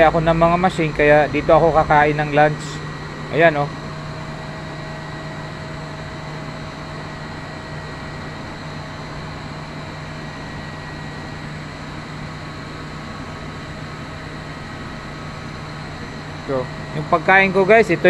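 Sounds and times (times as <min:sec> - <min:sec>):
faint whine tones: 0:00.0 - 0:18.0
machinery droning: 0:00.0 - 0:18.0.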